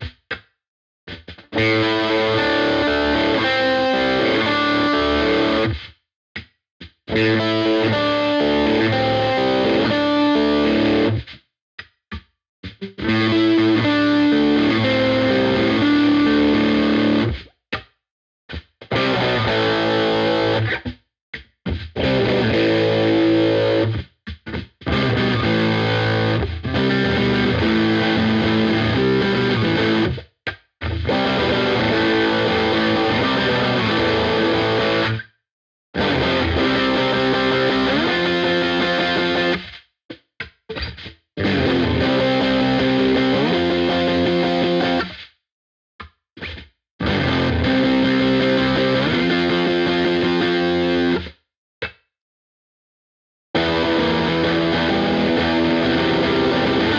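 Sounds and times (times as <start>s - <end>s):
distorted electric guitar riffs: 1.1s - 5.8s, 7.1s - 11.3s, 12.6s - 17.5s, 18.5s - 20.9s, 21.7s - 35.2s, 36.0s - 39.7s, 40.7s - 45.2s, 46.4s - 51.3s, 53.6s - 56.9s.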